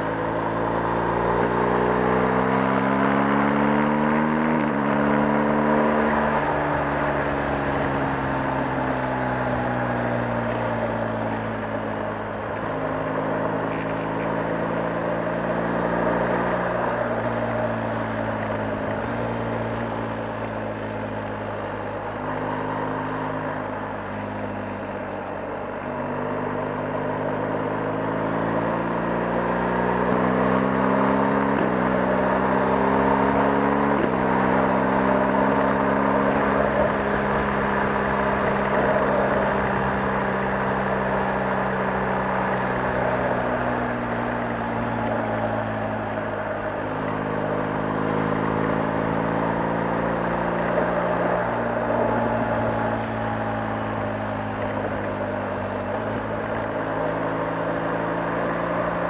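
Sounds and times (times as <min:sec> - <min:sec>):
gear changes: 0:00.0 - 0:59.0
motorcycle engine running: 0:00.0 - 0:59.0.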